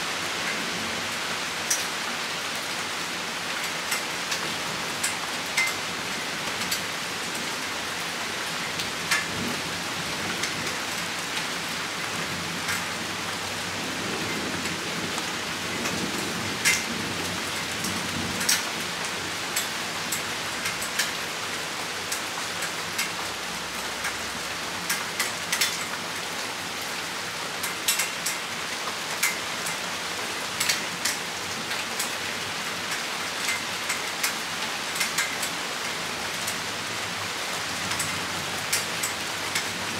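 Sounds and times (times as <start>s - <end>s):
rain hissing: 0.0s - 39.9s
raindrops ticking on surface: 0.1s - 39.9s.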